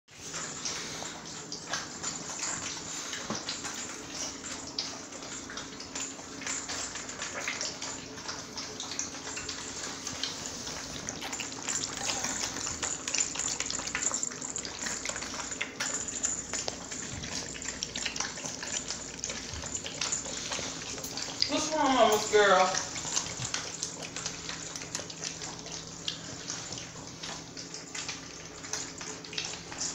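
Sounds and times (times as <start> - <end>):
puppies lapping from a dish: 0.1 - 29.9.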